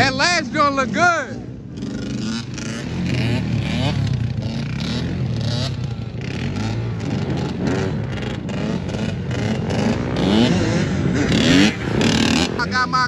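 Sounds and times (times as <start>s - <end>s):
motorbike engines revving: 0.0s - 13.0s.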